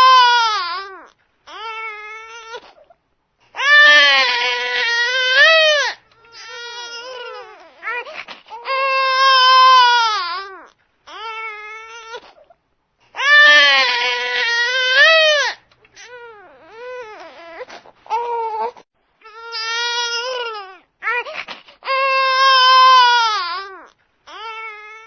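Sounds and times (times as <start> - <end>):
baby crying: 0.0 - 2.9, 3.6 - 12.5, 13.2 - 25.0.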